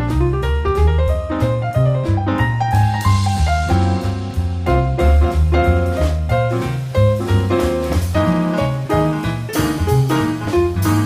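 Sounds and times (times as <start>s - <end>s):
jazz piano: 0.0s - 11.0s
light drums: 0.0s - 11.0s
walking bass line: 0.0s - 11.0s.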